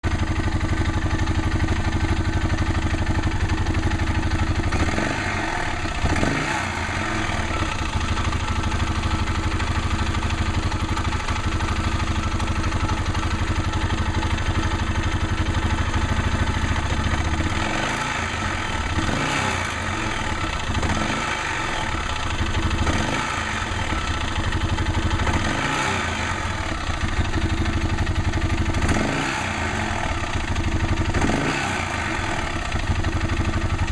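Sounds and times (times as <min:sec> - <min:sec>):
engine rattle knock: 0:00.0 - 0:29.3, 0:29.9 - 0:33.9
atv engine idling and revving: 0:00.0 - 0:33.9.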